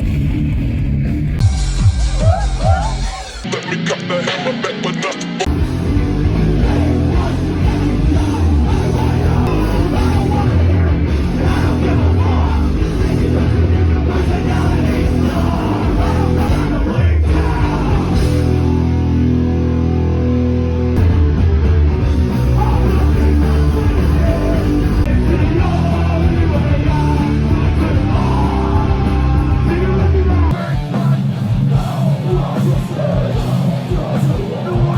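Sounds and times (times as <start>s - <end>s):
distorted electric guitars: 0.0s - 34.9s
drums: 0.0s - 34.9s
heavy bass: 0.0s - 34.9s.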